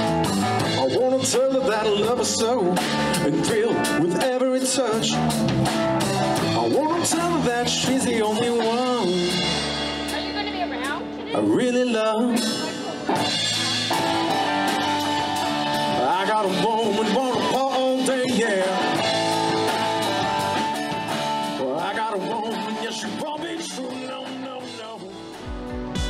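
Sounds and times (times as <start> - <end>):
bass guitar: 0.0 - 26.0
drum kit: 0.0 - 26.0
electric guitar: 0.0 - 26.0.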